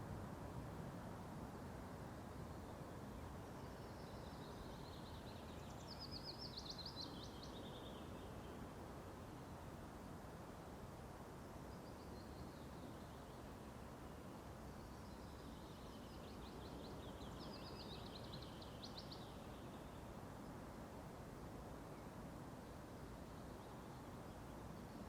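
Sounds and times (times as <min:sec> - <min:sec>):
low outdoor background noise: 0:00.0 - 0:25.0
songbird singing faintly: 0:00.0 - 0:25.0.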